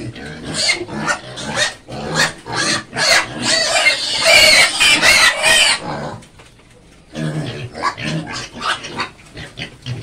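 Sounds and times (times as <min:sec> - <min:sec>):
young pigs squealing and grunting: 0:00.0 - 0:06.2, 0:07.1 - 0:10.0.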